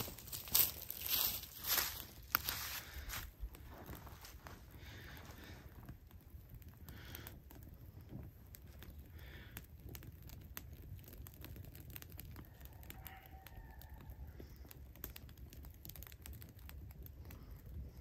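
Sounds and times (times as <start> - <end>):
kindling fire crackling: 0.0 - 18.0.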